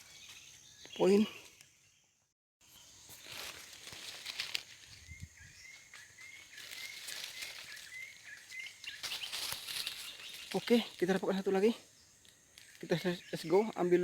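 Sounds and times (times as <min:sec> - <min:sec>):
forest rustling: 0:00.0 - 0:14.0.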